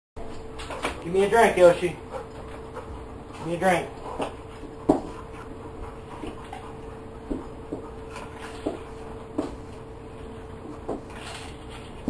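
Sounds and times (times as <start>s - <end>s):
faint steady hum: 0.2s - 12.0s.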